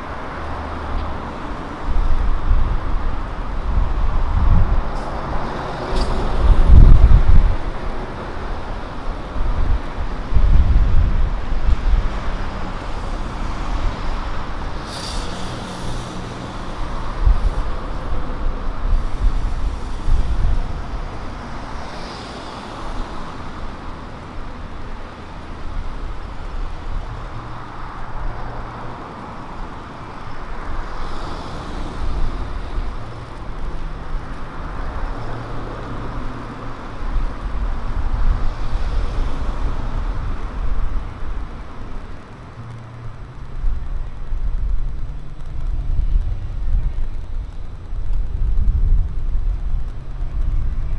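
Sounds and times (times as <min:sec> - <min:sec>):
cars passing: 0:00.0 - 0:50.9.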